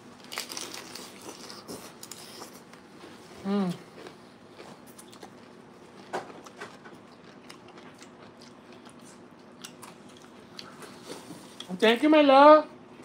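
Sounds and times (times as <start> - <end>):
chewing crisp food: 0.0 - 11.7.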